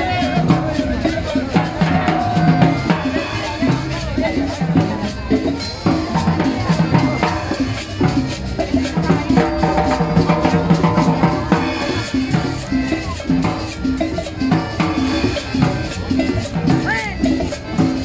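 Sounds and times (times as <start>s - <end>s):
latin dance band playing: 0.0s - 18.0s
timbales and conga drums: 0.0s - 18.0s.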